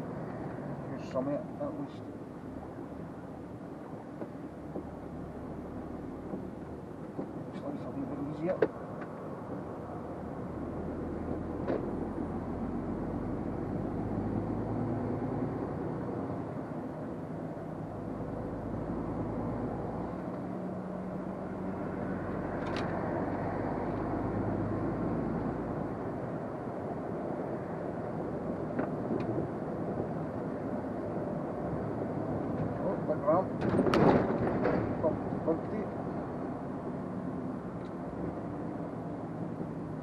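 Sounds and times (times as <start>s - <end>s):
road noise: 0.0s - 40.0s.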